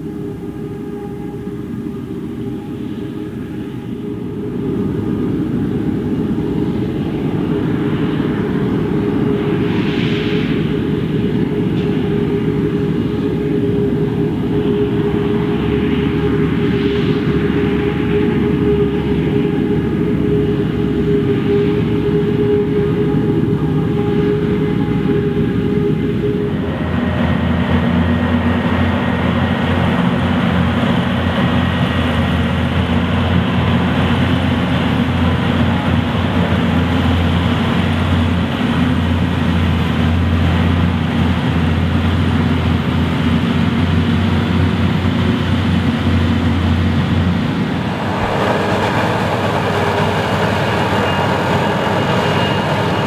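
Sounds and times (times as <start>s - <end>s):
deep engine drone: 0.0s - 53.0s.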